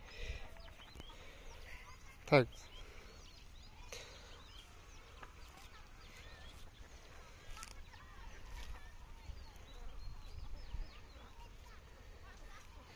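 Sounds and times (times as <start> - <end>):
faint bird chirps: 0.0 - 12.9.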